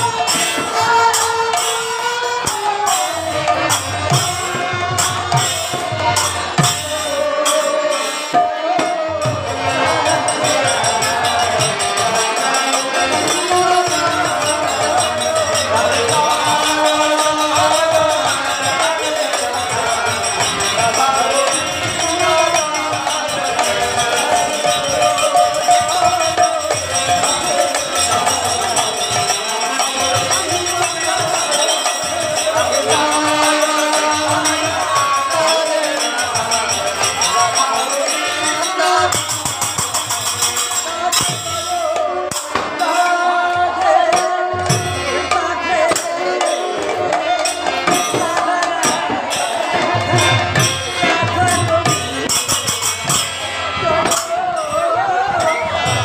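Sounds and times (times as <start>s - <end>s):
harmonium: 0.0s - 56.0s
voices singing devotional song: 0.0s - 56.0s.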